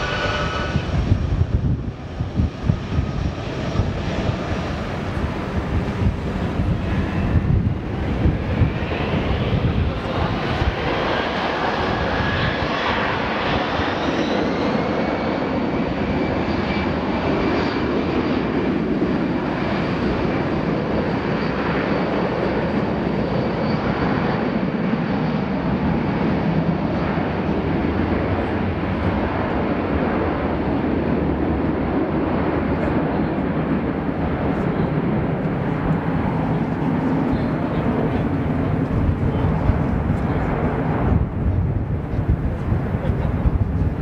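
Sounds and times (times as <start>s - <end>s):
jet engines rumbling and whining: 0.0s - 44.0s.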